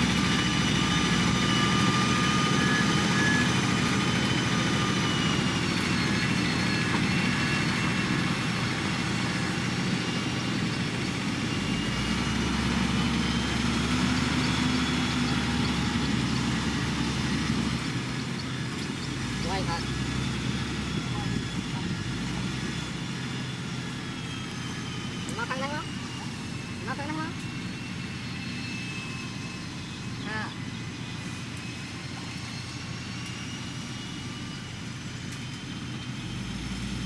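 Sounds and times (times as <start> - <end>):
high whining tones: 0.0 - 36.9
heavy machinery diesel engine: 0.0 - 37.0.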